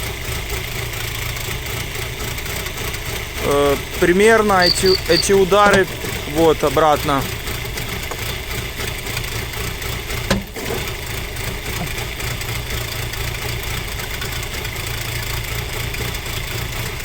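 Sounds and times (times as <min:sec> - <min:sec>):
car engine idling with knocks: 0:00.0 - 0:17.0.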